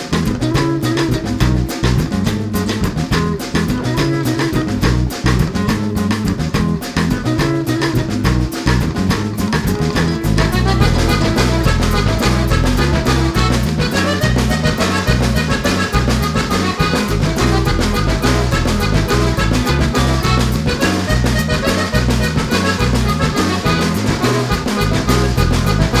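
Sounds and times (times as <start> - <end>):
accordion-like lead: 0.0 - 26.0
stepping bass line: 0.0 - 26.0.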